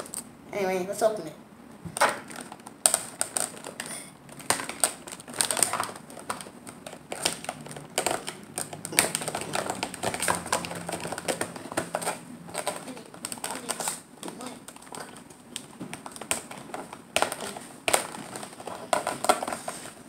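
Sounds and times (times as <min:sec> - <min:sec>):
plastic packaging being peeled open: 0:02.2 - 0:20.0.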